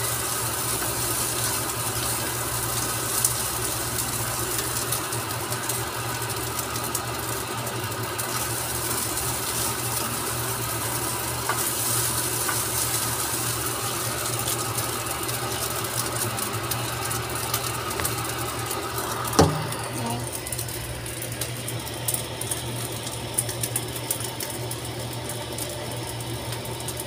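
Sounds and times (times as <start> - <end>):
rice frying in a pan: 0.0 - 27.0.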